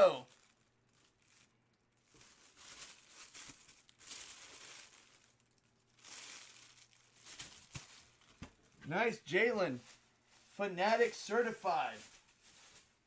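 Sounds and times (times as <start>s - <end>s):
plastic packaging crinkling: 0.0s - 8.8s, 9.4s - 13.0s.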